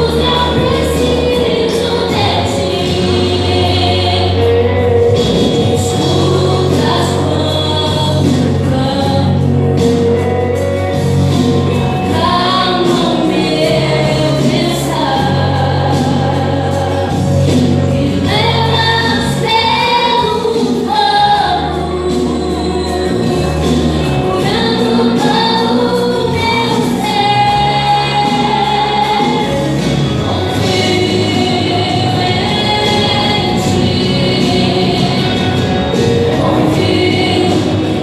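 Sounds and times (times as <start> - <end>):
woman singing gospel song: 0.0 - 9.9, 12.0 - 38.0
instrumental accompaniment: 0.0 - 38.0
sustained low bass notes: 0.0 - 38.0.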